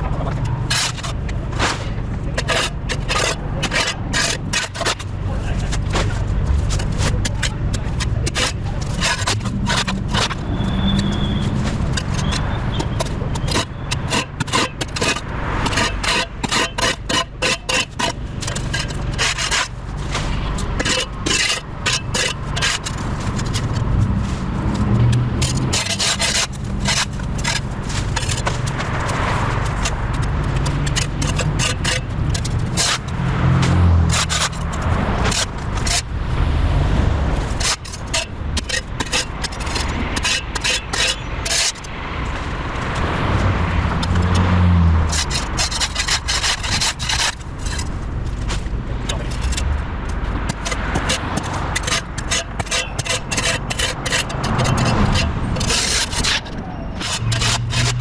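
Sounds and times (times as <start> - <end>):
spade scraping packed dirt: 0.0 - 58.0.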